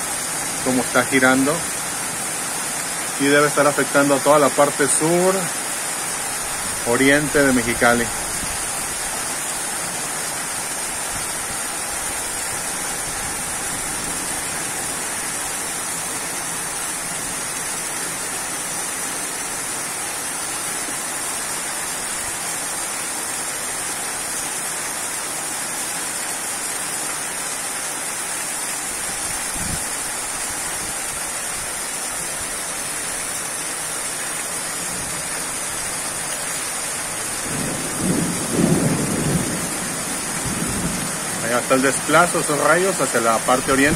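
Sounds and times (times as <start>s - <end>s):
heavy rain on roofs: 0.0s - 43.9s.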